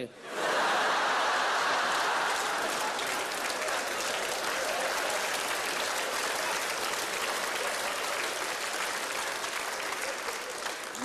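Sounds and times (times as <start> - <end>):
audience applauding: 0.5 - 11.0.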